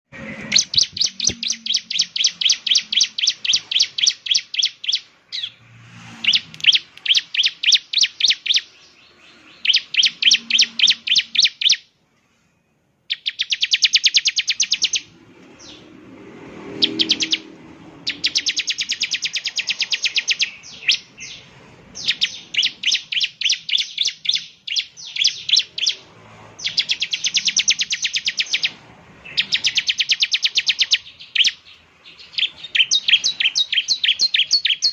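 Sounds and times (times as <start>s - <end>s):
bird chirping rapidly: 0.2s - 11.9s, 13.1s - 16.0s, 16.6s - 34.9s.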